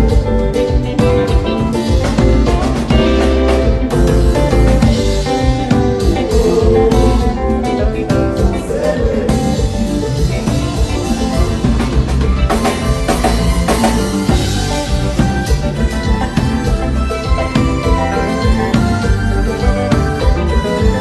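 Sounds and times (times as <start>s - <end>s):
band playing: 0.0s - 21.0s
drum kit: 0.0s - 21.0s
guitar: 0.0s - 21.0s
heavy bass: 0.0s - 21.0s.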